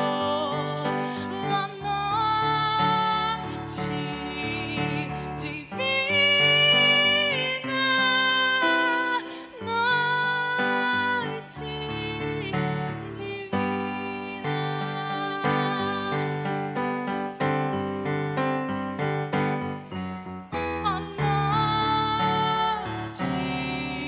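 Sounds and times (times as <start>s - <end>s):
keyboard accompaniment: 0.0s - 24.0s.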